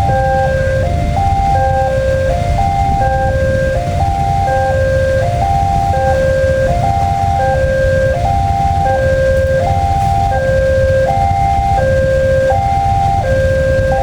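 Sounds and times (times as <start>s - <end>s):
level crossing warning alarm: 0.0s - 14.0s
steady low rumble: 0.0s - 14.0s.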